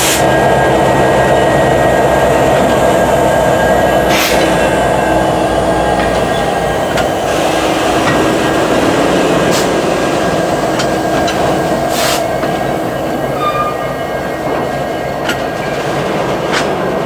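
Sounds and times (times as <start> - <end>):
diesel locomotive engine running: 0.0 - 17.0
steady whine: 0.0 - 17.0.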